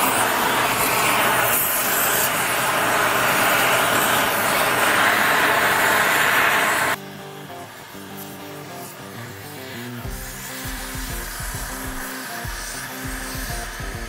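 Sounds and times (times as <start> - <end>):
cutting torch hissing: 0.0 - 14.0.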